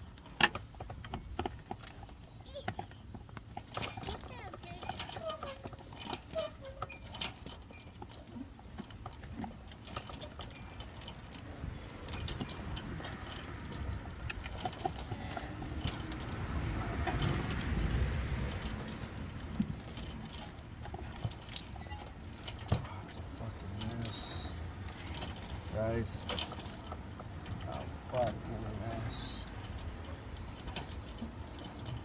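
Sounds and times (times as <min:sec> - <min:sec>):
metallic clicks and rattles of tools: 0:00.0 - 0:32.0.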